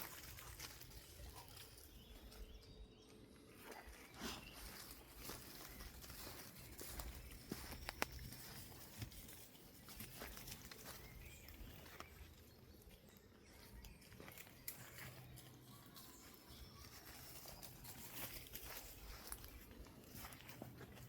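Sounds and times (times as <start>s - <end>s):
footsteps on forest floor: 0.0s - 2.4s, 3.4s - 21.0s.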